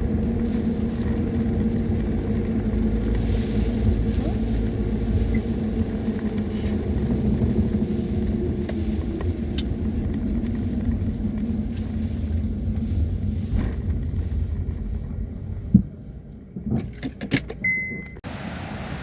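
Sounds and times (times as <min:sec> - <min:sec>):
low rumble with hum: 0:00.0 - 0:19.0.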